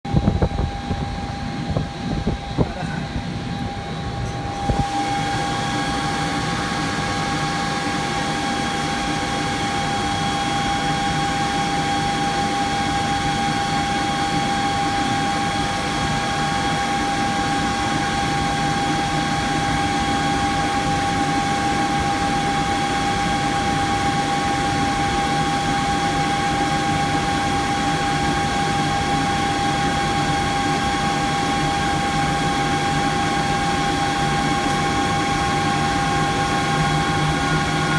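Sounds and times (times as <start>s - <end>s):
machine hum: 0.1s - 26.1s, 26.7s - 37.9s
electric motor whine: 0.1s - 37.9s.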